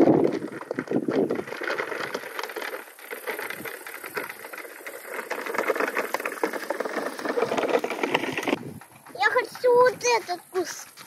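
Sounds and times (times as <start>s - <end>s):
plastic toy truck rattling: 0.0s - 10.2s.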